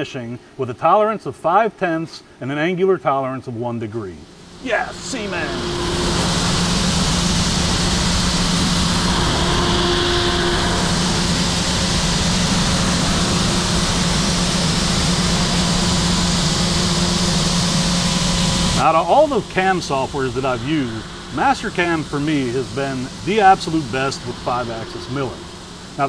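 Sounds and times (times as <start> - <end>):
low machine hum: 4.2 - 26.0
hiss of milling cutter: 4.4 - 26.0.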